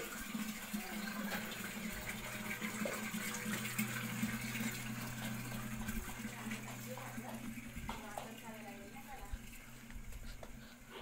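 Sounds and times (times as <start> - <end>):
steady low hum: 0.3 - 11.0.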